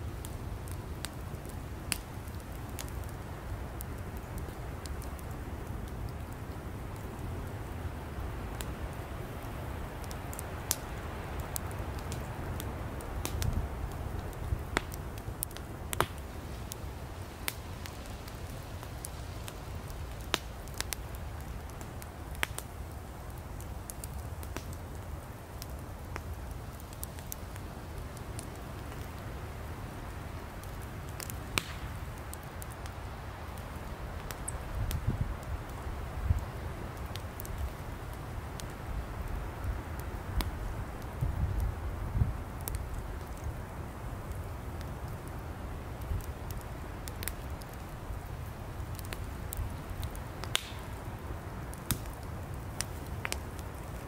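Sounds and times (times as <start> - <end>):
campfire flame rumble: 0.0 - 54.0
firewood crackling and popping: 0.0 - 54.0.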